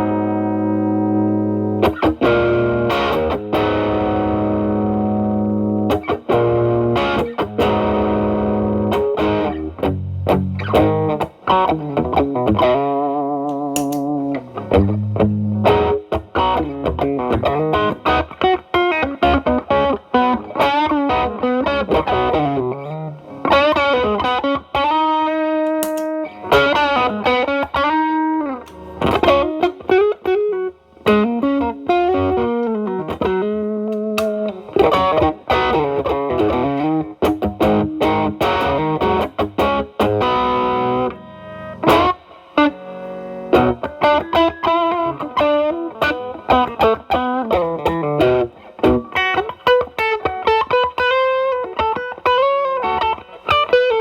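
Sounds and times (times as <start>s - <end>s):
distorted electric guitar lead: 0.0s - 54.0s.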